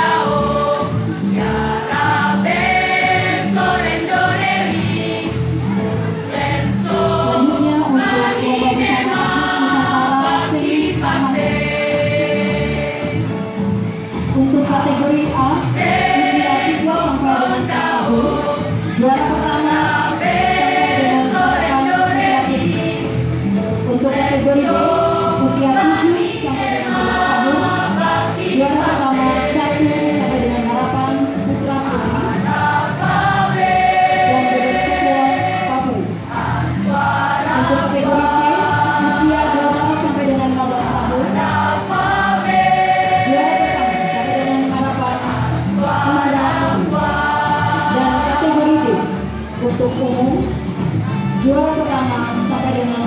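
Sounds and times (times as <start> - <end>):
choir singing over speaker: 0.0 - 53.0.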